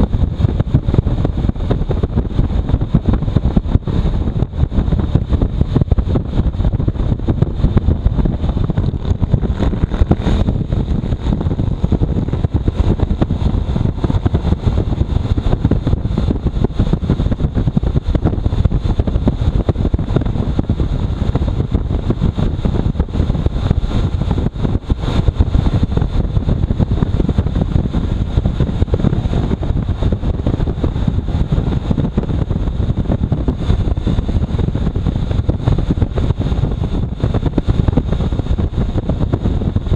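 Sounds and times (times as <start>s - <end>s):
motorcycle engine and road noise: 0.0s - 39.9s
wind buffeting on microphone: 0.0s - 39.9s.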